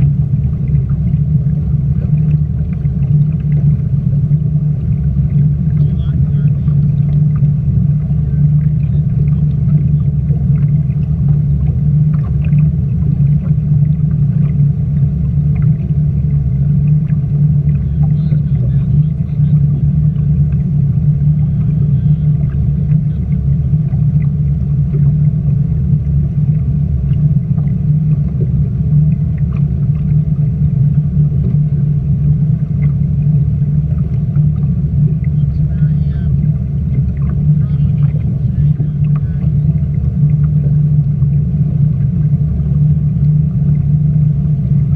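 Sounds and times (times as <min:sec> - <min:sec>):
speedboat engine droning: 0:00.0 - 0:44.9.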